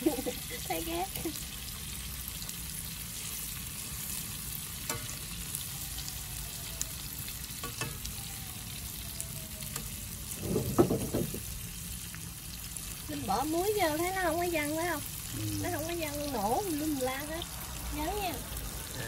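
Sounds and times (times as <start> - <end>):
prawns sizzling in hot oil: 0.0 - 19.0.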